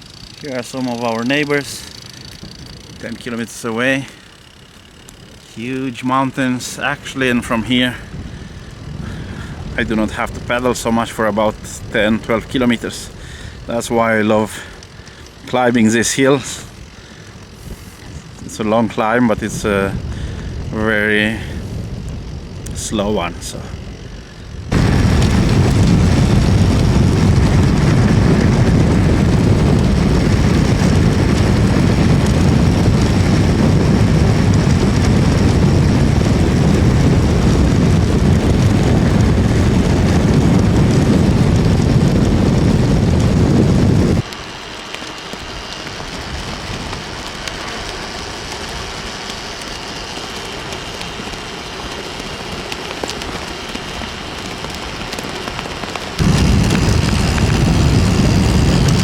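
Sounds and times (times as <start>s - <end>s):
steady rushing hiss: 0.0s - 59.0s
wind buffeting on microphone: 0.0s - 59.0s.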